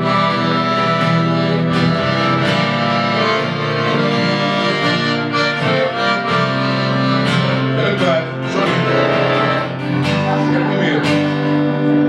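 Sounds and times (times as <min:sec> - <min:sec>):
accordion playing: 0:00.0 - 0:12.0
acoustic guitar: 0:00.0 - 0:12.0.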